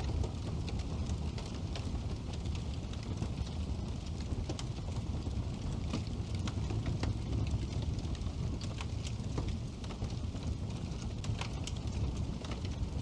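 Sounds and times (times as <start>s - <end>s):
burning logs crackling and popping: 0.0s - 13.0s
fire flames rumbling: 0.0s - 13.0s.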